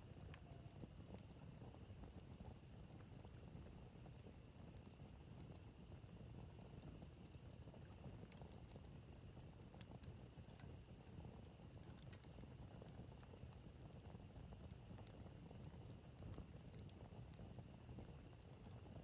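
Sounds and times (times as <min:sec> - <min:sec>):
campfire crackles and pops: 0:00.0 - 0:19.0
fire low rumble: 0:00.0 - 0:19.0.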